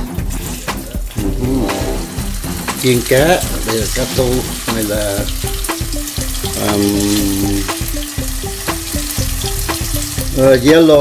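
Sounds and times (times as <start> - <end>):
food sizzling in oil: 0.1 - 11.0.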